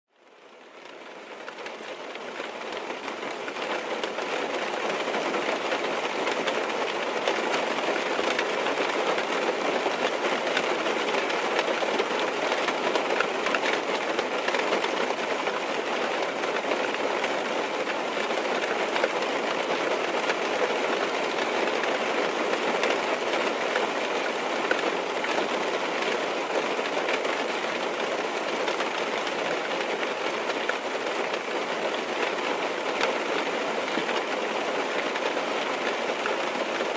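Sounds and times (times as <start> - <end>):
rain on a car roof: 0.2 - 36.9.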